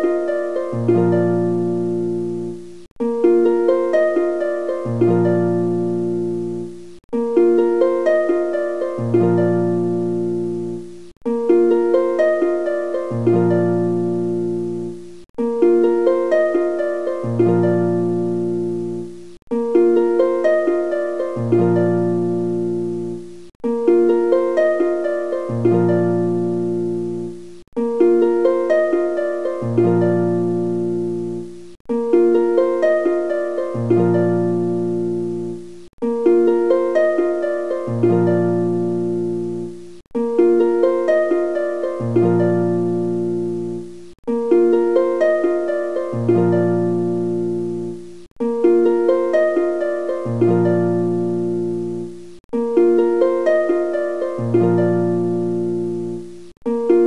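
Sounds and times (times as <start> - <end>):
plucked instrumental music: 0.0 - 57.0.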